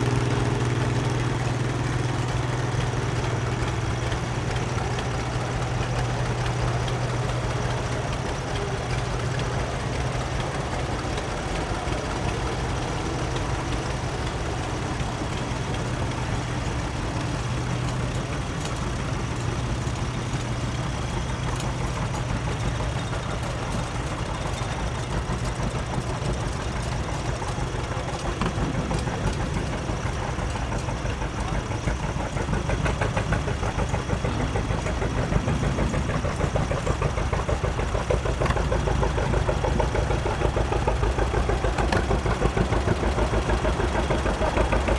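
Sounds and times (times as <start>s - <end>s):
coarse loud engine: 0.0s - 44.9s
tractor engine low drone: 0.0s - 44.9s.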